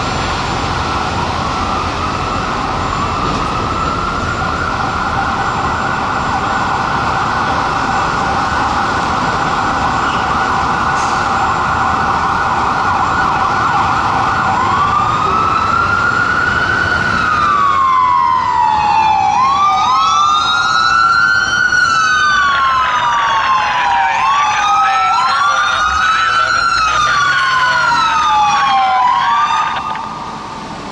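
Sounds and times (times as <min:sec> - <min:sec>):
fire engine siren: 0:00.0 - 0:30.9
second siren wailing: 0:00.0 - 0:30.9.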